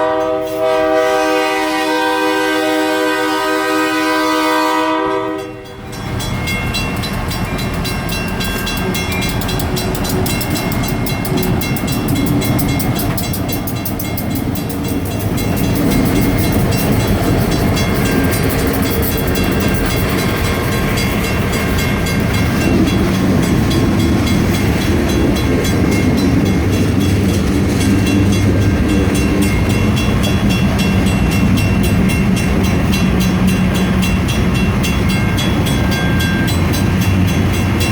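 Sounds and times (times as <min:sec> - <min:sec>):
crossing bells ringing: 0:00.0 - 0:37.9
diesel locomotives passing: 0:00.0 - 0:37.9
freight cars rolling on rails: 0:00.0 - 0:37.9.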